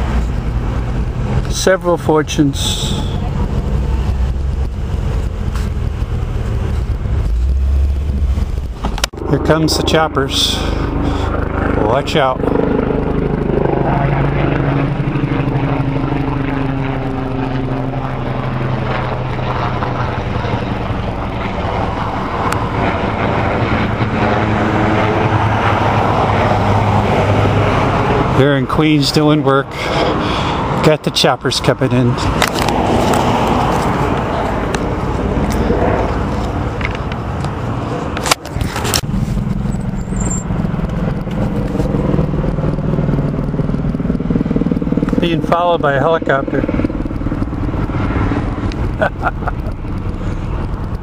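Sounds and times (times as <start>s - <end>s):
helicopter rotor chop: 0.0s - 51.0s.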